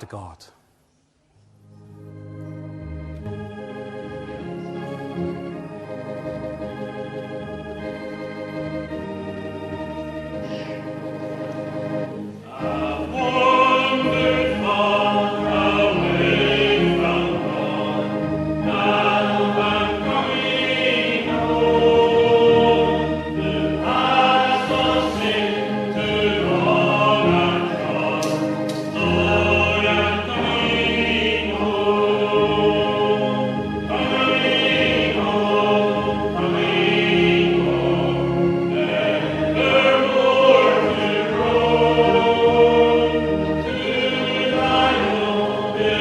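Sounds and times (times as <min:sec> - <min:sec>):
church organ playing: 0:01.5 - 0:46.0
congregation singing a hymn: 0:01.9 - 0:46.0.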